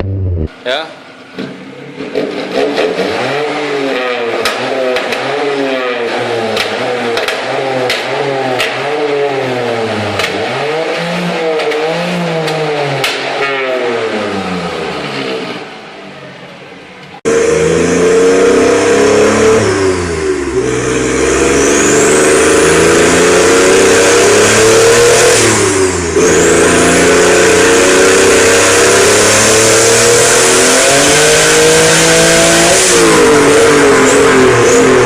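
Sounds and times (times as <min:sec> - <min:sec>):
car engine revving: 0:00.0 - 0:00.6, 0:02.4 - 0:15.8, 0:17.3 - 0:35.0.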